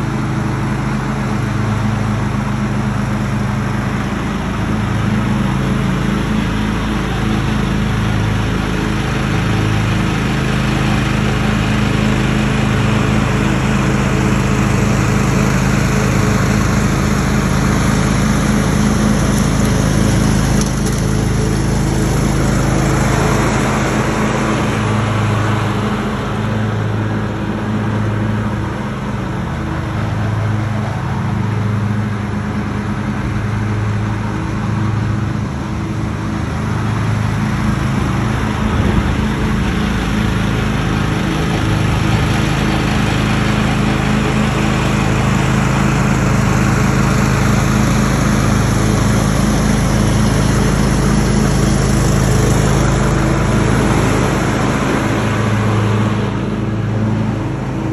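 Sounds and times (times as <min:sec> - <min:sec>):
lawn tractor engine droning: 0:00.0 - 0:57.9.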